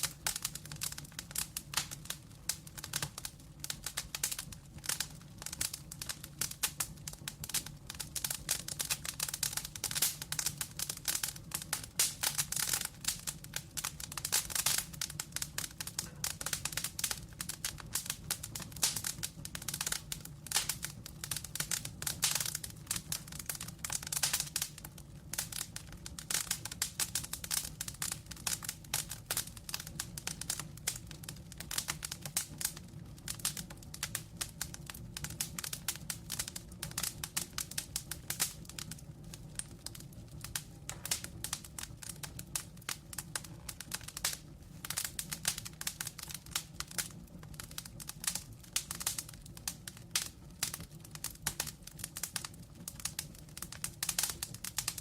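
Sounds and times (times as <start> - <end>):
low fire rumble: 0.0 - 55.0.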